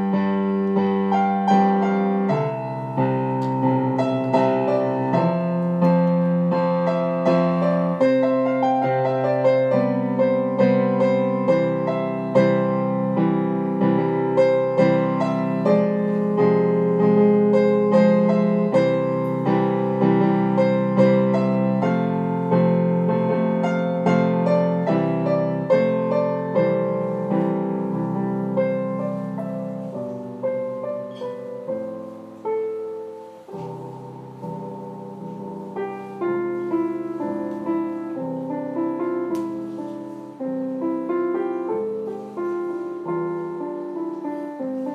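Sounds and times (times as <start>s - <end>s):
piano music: 0.0s - 44.9s.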